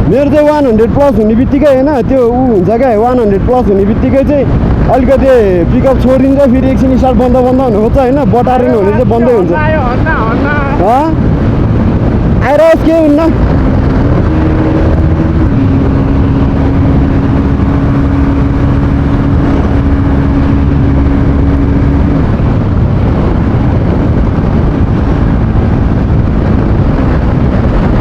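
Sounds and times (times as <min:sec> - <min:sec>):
wind rush on microphone: 0:00.0 - 0:28.0
motorcycle engine running: 0:02.2 - 0:28.0.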